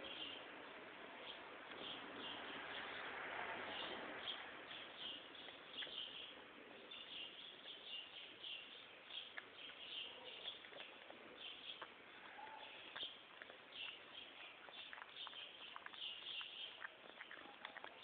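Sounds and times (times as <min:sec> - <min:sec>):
cat chewing and crunching food: 0:00.0 - 0:18.0.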